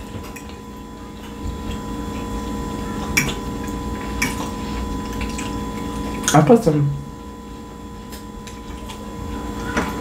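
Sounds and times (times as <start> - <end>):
close-up chewing: 0.0 - 6.4, 7.2 - 10.0
faint steady hum: 0.0 - 10.0.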